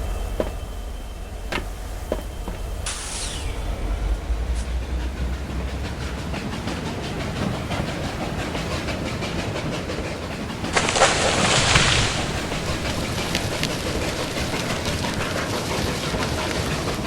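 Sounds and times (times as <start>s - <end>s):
rhythmic locomotive clatter: 0.0s - 17.0s
steam hiss: 0.0s - 17.0s.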